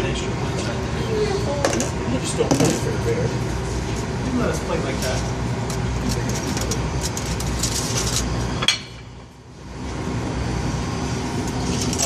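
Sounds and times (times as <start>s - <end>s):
kitchen background hum: 0.0s - 12.0s.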